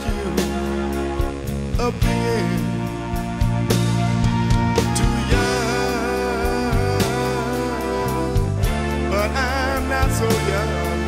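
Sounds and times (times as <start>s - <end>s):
soul band playing: 0.0s - 11.0s.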